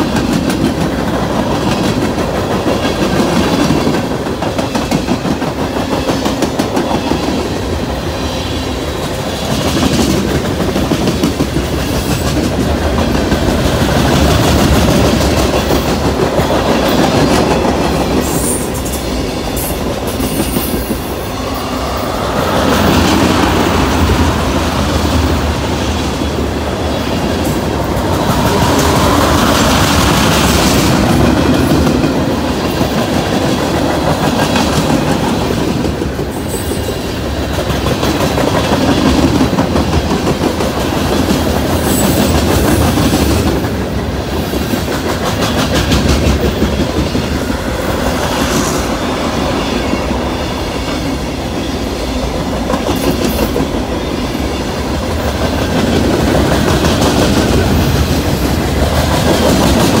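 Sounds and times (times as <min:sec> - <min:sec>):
steel wheels on rails: 0:00.0 - 1:00.0.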